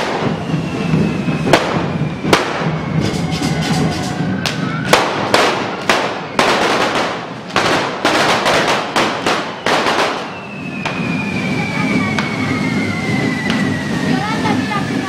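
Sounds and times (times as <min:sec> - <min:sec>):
firecracker bangs: 0:00.0 - 0:15.0.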